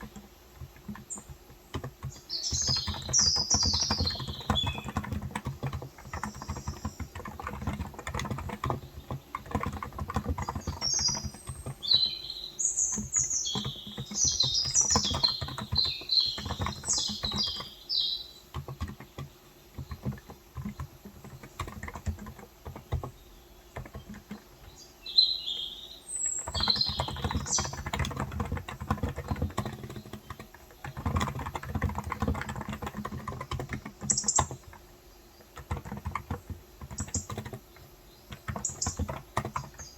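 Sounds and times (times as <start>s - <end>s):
birds chirping: 0.0s - 39.9s
keyboard typing: 0.0s - 39.9s.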